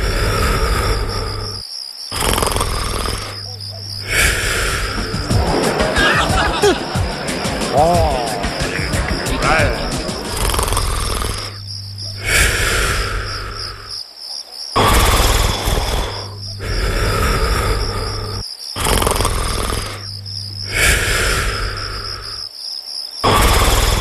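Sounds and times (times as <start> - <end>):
person snoring: 0.0 - 14.0, 14.8 - 22.5, 23.2 - 24.0
crickets chirping: 0.0 - 24.0.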